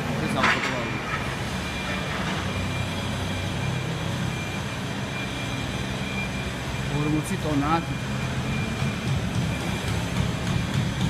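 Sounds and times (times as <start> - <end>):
heavy machinery engine hum: 0.0 - 11.0.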